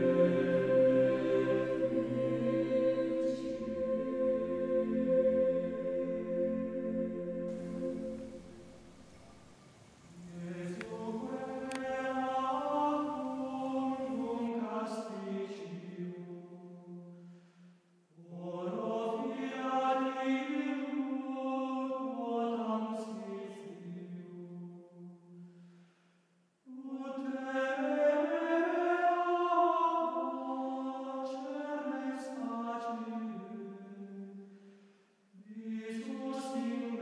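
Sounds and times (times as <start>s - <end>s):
voices singing slow chant: 0.0s - 25.9s, 26.6s - 37.0s.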